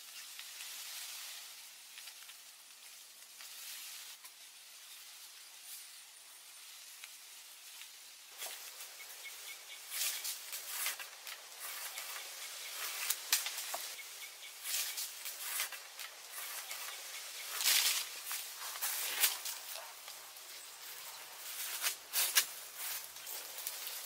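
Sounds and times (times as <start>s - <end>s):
faint insect hiss: 0.0s - 24.0s
rustling in dry leaves: 0.0s - 24.0s.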